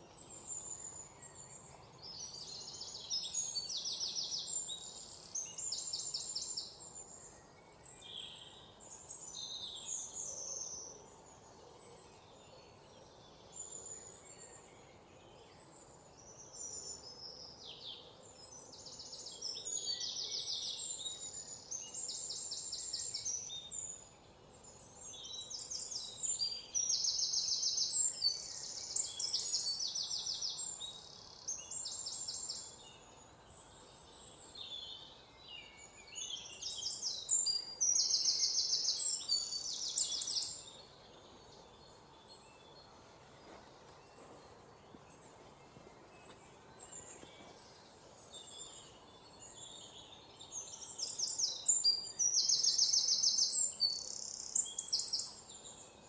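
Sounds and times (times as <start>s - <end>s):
faint background hiss: 0.0s - 56.0s
songbirds chirping and trilling: 0.0s - 56.0s.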